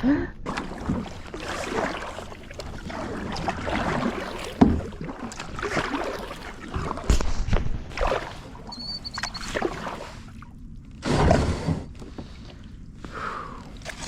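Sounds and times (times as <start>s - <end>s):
paddle strokes in water: 0.4s - 14.0s.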